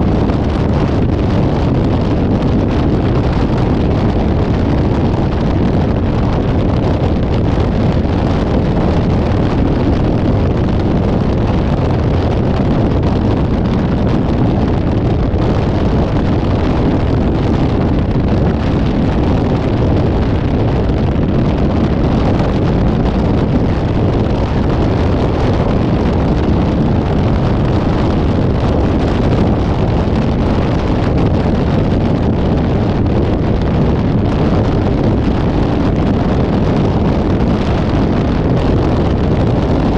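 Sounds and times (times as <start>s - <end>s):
road noise: 0.0s - 39.9s
wind rushing on microphone: 0.0s - 39.9s.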